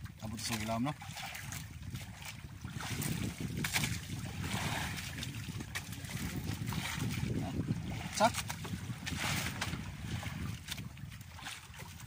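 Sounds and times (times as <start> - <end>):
water splashing against boat hull: 0.0 - 12.0
wind buffeting microphone: 0.0 - 12.0.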